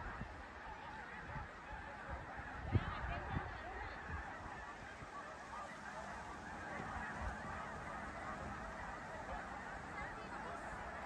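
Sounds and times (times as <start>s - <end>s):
geese honking in flight: 0.0s - 11.0s.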